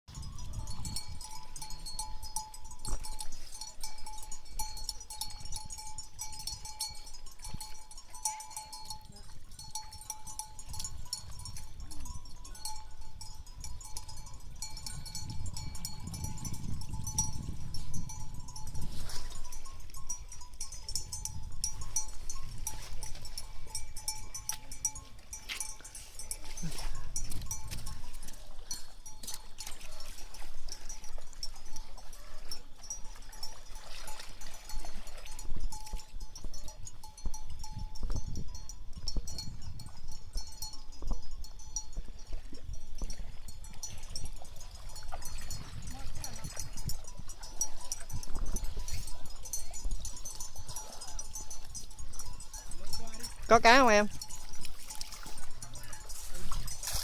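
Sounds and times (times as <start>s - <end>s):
wind gusting over microphone: 0.1s - 31.9s, 34.9s - 57.0s.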